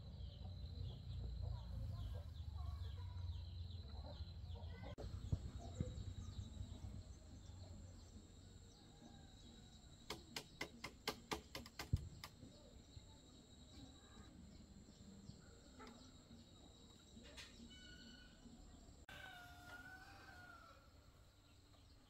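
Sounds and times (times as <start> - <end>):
birds chirping: 0.0 - 20.7.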